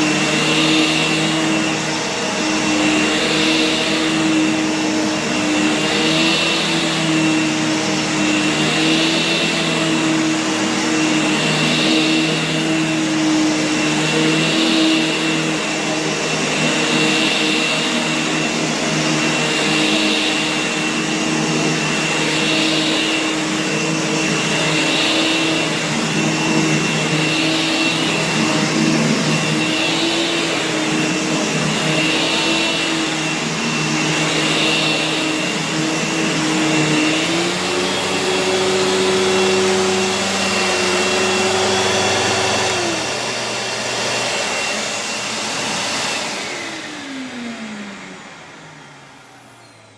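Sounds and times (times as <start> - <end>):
upright vacuum cleaner running: 0.0 - 49.9.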